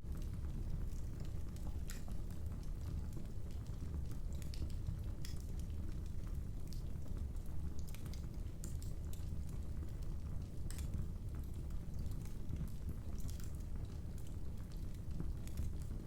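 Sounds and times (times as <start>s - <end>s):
low rumble of burning fire: 0.0s - 16.0s
wood fire crackling: 0.1s - 16.0s.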